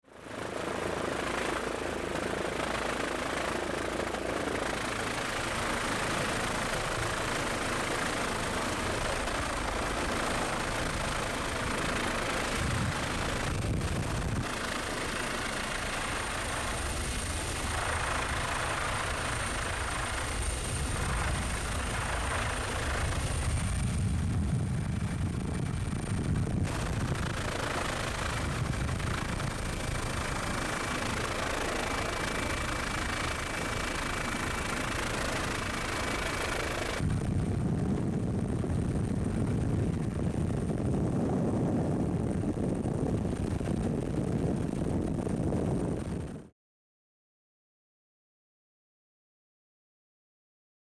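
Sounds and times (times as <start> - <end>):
helicopter engine and rotor: 0.1 - 46.5.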